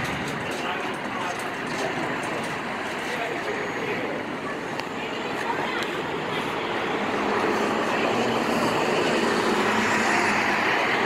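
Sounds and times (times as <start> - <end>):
bus driving past: 0.0 - 11.0.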